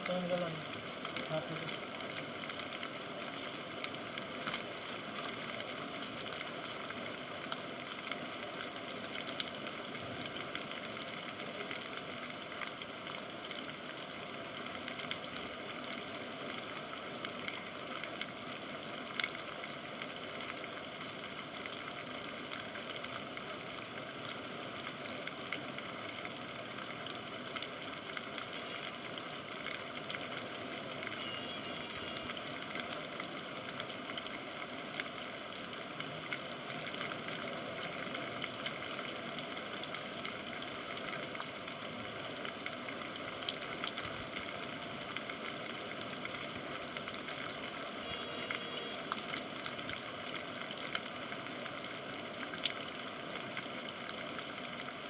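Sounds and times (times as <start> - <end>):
raindrop ticks: 0.0 - 55.0
steady rain hiss: 0.0 - 55.0.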